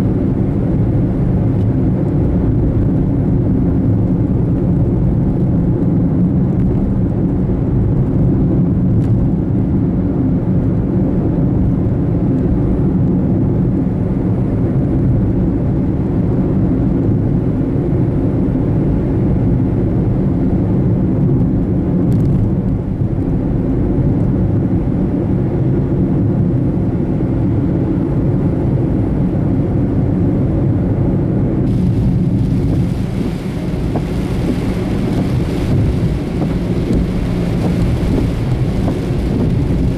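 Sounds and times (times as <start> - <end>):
vehicle rumble: 0.0 - 39.9.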